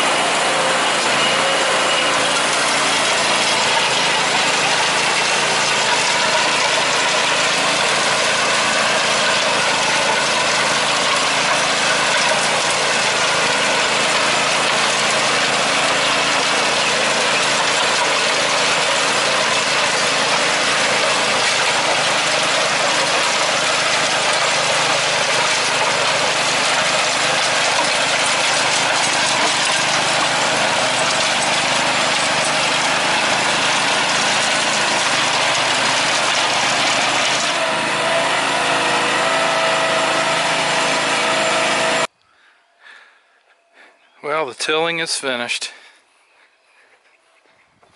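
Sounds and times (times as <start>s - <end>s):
garden tractor engine running: 0.0s - 42.1s, 44.2s - 46.9s
rotary tiller churning soil: 0.0s - 42.1s.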